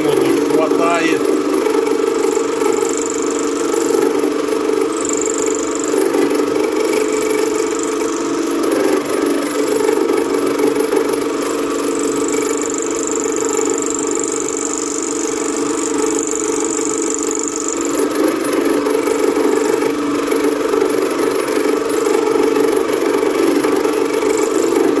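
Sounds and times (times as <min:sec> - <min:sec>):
drill press machine drone: 0:00.0 - 0:25.0
high cutting whine: 0:00.0 - 0:25.0.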